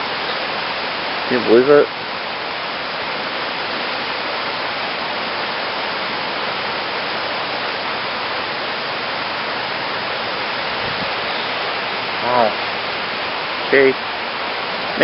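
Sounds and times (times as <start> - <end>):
floodwater rushing in creek: 0.0 - 15.0.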